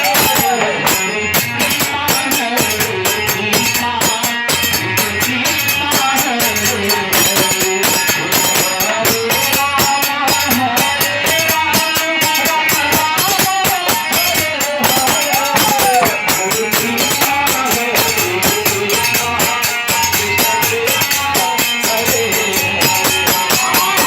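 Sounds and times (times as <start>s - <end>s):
jingling hand percussion: 0.0s - 24.0s
person singing a melody: 0.0s - 24.0s
steady held notes: 0.0s - 24.0s.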